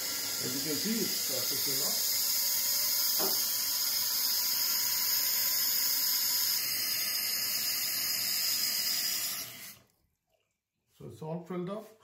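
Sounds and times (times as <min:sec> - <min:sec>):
toilet tank refilling hiss: 0:00.0 - 0:09.9.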